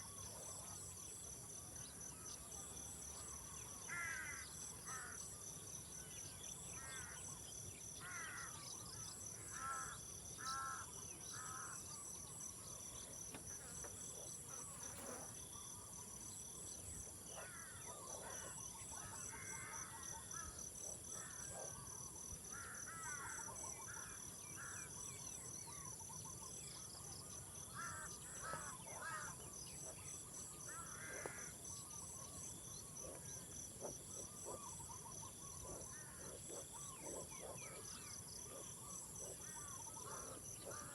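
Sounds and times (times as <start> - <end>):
rapidly pulsing insect chirp: 0.0 - 40.9.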